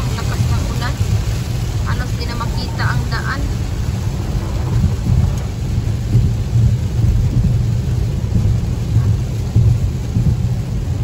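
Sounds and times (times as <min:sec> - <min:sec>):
heavy rain on car roof: 0:00.0 - 0:11.0
tyres rumbling on wet road: 0:00.0 - 0:11.0.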